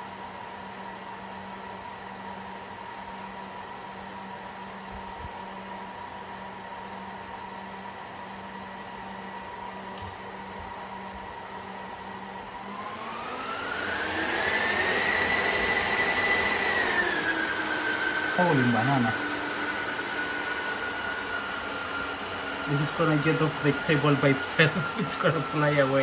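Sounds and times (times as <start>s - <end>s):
server cooling fans whining: 0.0s - 26.0s.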